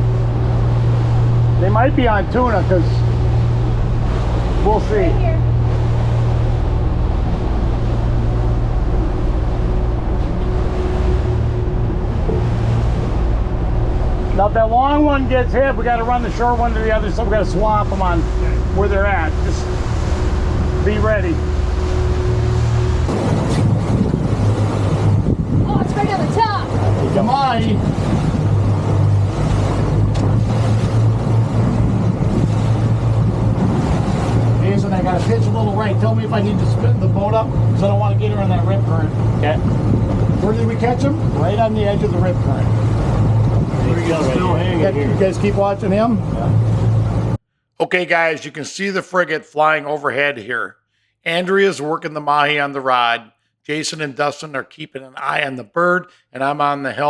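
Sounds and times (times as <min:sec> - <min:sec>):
wind: 0:00.0 - 0:49.3
boat engine humming: 0:00.0 - 0:50.3
water noise: 0:00.0 - 0:50.5, 0:51.3 - 0:57.0.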